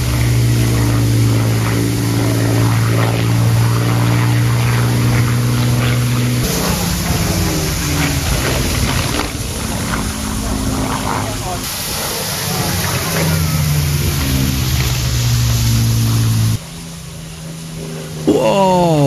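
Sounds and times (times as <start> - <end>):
piston aircraft engine droning: 0.0 - 18.3.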